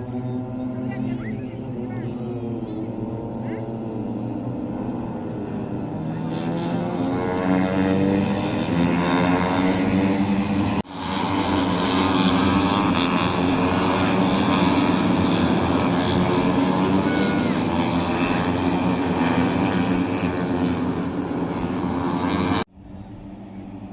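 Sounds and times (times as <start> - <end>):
engines droning: 0.0 - 23.9.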